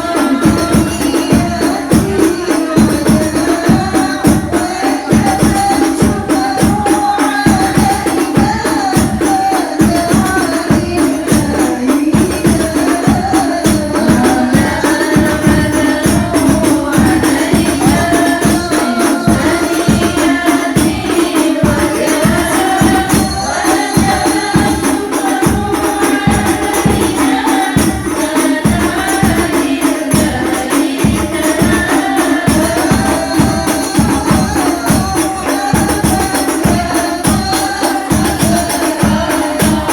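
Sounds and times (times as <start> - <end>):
frame drums quick beat: 0.0 - 39.9
group singing in unison: 0.0 - 39.9.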